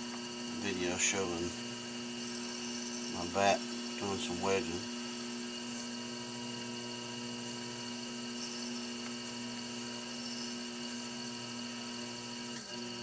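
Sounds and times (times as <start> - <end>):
potter's wheel motor humming: 0.0 - 13.0.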